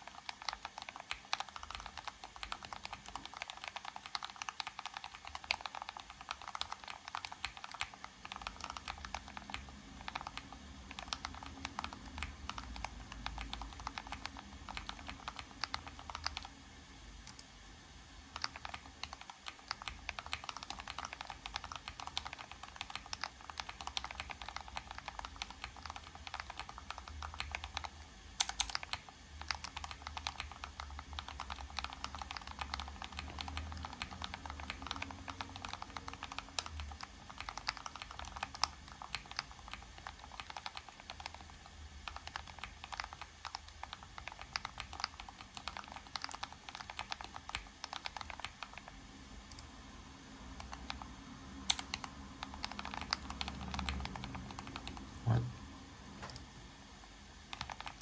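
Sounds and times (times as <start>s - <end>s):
fast typing on mechanical keyboard: 0.0s - 16.6s, 18.3s - 49.0s, 50.6s - 55.1s, 57.5s - 58.0s.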